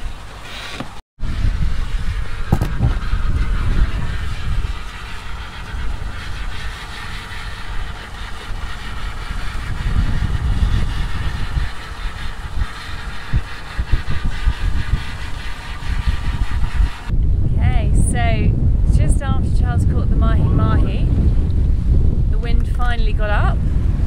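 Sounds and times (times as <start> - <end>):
sea and boat noise: 0.0 - 24.0
wind buffeting microphone: 1.2 - 24.0.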